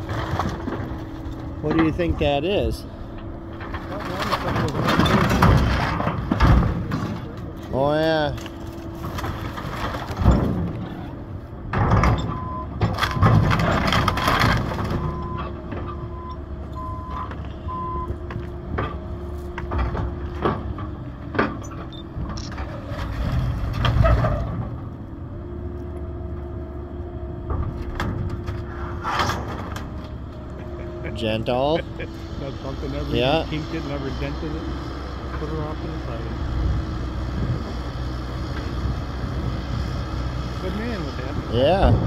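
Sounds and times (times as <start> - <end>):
wood and metal crunching: 0.0 - 25.2, 27.4 - 34.6, 40.6 - 42.0
excavator engine running: 0.0 - 42.0.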